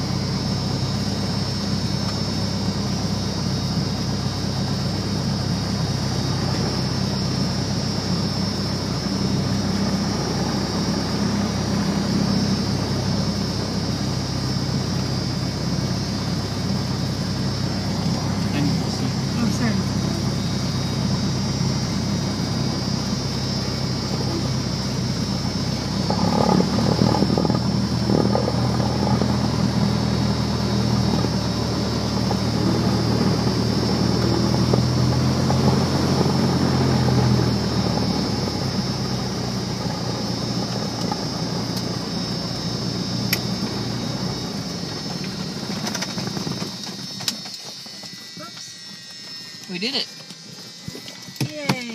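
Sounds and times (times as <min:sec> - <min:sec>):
propeller engine running: 0:00.0 - 0:51.9.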